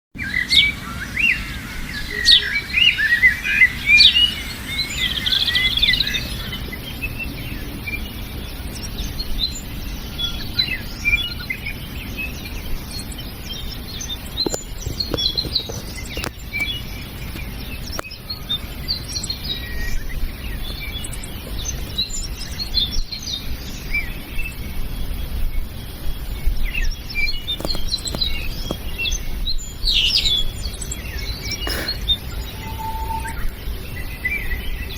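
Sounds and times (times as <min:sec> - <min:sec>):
birds chirping and singing: 0:00.2 - 0:34.9.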